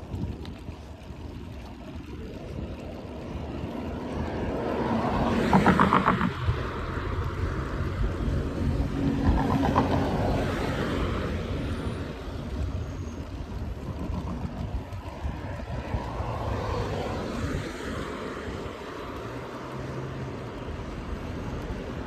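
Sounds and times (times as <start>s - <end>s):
low vehicle engine hum: 0.0s - 22.0s
wind and road noise: 0.0s - 22.0s.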